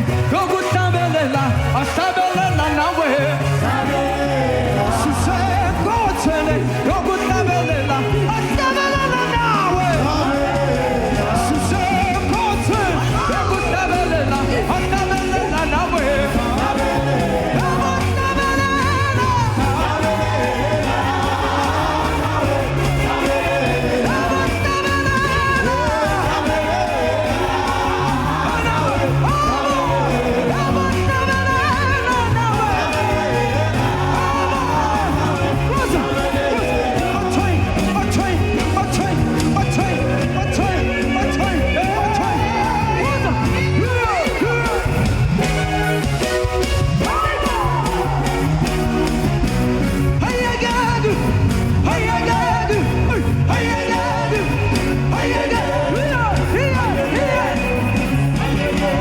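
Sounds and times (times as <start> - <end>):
gospel band playing: 0.0 - 59.0
people singing: 0.0 - 59.0.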